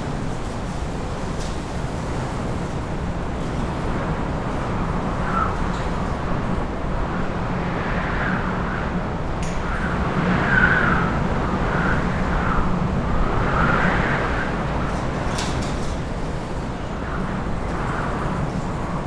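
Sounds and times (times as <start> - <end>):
low wind rumble: 0.0 - 19.0
wind gusts: 0.0 - 19.0.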